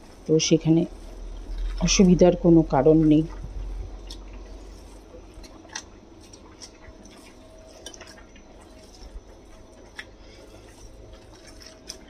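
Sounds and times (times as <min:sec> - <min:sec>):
hand kneading sticky paste: 0:00.0 - 0:12.0.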